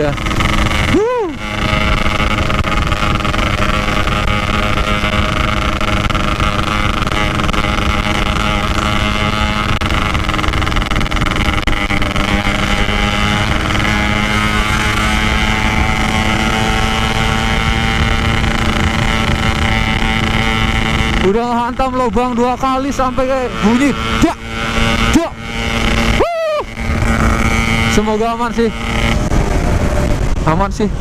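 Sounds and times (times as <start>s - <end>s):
wind on microphone: 0.0s - 22.2s, 23.0s - 31.0s
motorcycle engine cruising: 0.0s - 31.0s.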